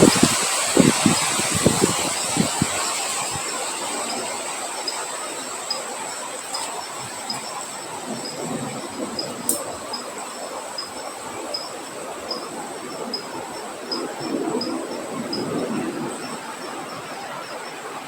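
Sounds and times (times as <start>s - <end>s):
high insect trill: 0.0s - 18.0s
low wind rumbles: 0.0s - 18.0s
rain and wind hiss: 0.0s - 18.0s.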